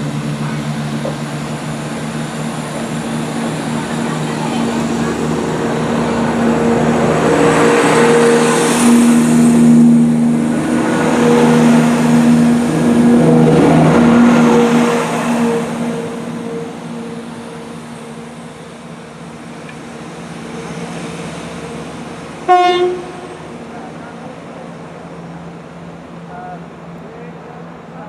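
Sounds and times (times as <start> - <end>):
diesel train pulling away: 0.0 - 28.0.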